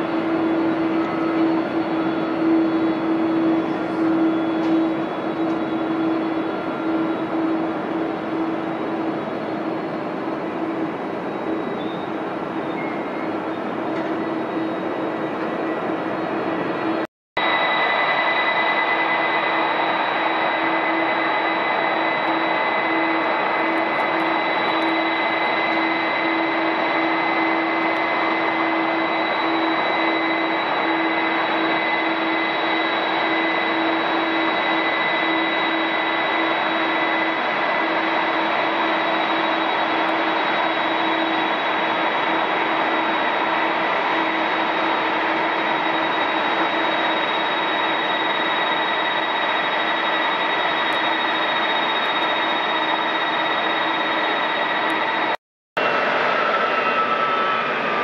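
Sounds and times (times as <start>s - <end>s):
jet engines whining at idle: 0.0s - 58.0s.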